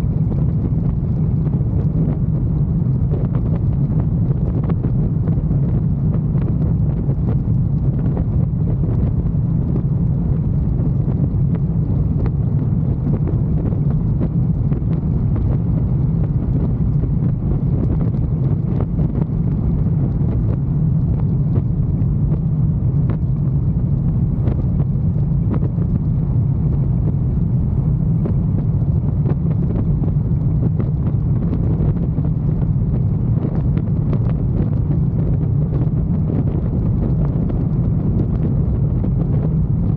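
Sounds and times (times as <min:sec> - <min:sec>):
motorcycle engine rumble: 0:00.0 - 0:39.9
wind buffeting microphone: 0:00.0 - 0:39.9.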